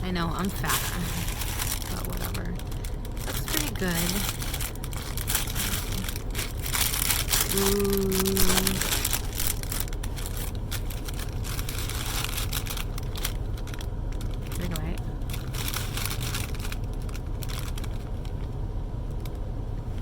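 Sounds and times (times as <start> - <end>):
low hum: 0.0 - 20.0
packaging crinkling: 0.4 - 19.5.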